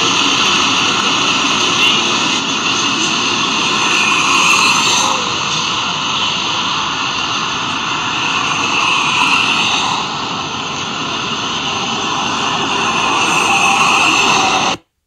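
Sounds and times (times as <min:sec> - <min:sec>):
drone propellers whining: 0:00.0 - 0:14.8
steady rushing noise: 0:00.0 - 0:15.0.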